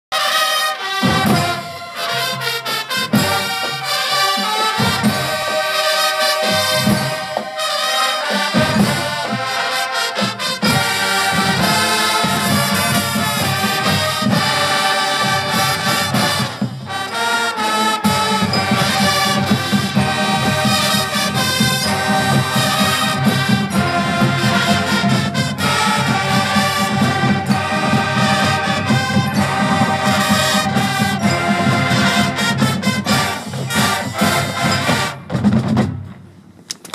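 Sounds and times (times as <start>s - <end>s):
marching band brass chords: 0.1s - 36.5s
drums: 0.1s - 36.9s.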